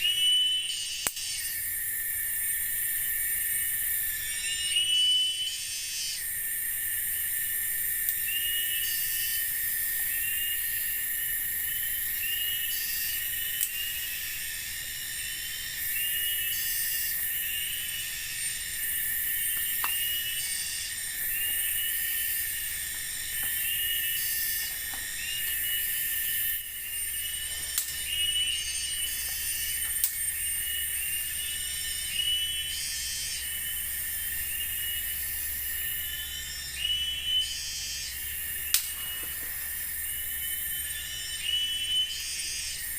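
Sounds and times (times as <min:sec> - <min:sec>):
short repeating insect chirp: 0:00.0 - 0:42.9
shrill insect buzz: 0:00.0 - 0:42.9
steady high insect drone: 0:00.0 - 0:42.9.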